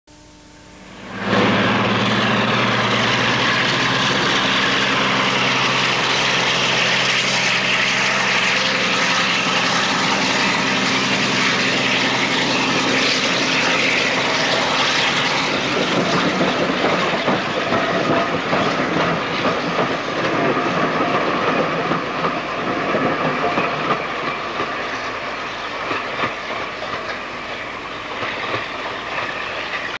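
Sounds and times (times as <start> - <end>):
diesel locomotive engines under load: 0.1 - 30.0
coaches clattering over rail joints: 1.2 - 30.0.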